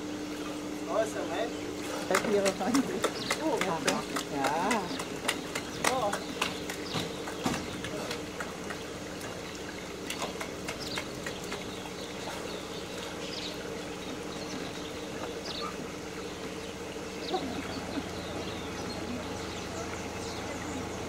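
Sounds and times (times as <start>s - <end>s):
pool water splashing and trickling: 0.0s - 21.0s
steady low hum: 0.0s - 21.0s.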